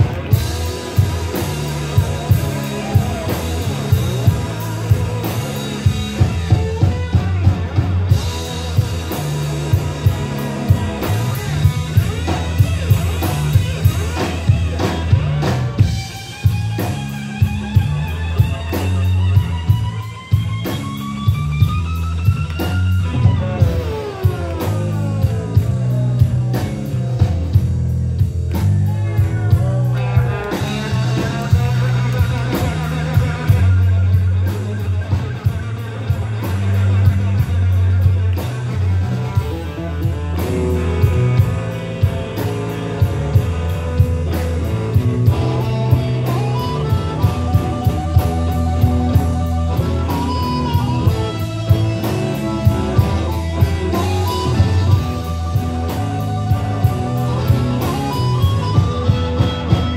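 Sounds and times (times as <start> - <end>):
heavy low bass notes: 0.0 - 59.9
lead guitar bending notes: 0.0 - 59.9
steady drum beat: 0.0 - 59.9.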